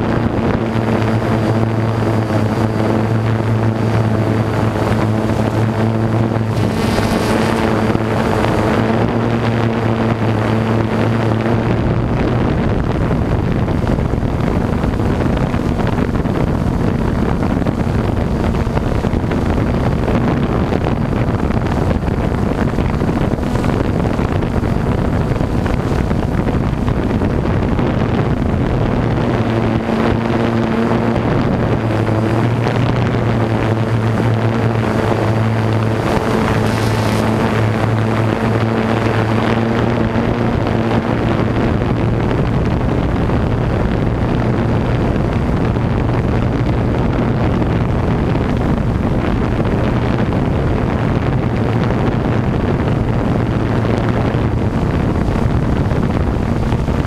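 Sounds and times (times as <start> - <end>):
drone propellers buzzing: 0.0 - 57.0
wind rushing over microphone: 0.0 - 57.0.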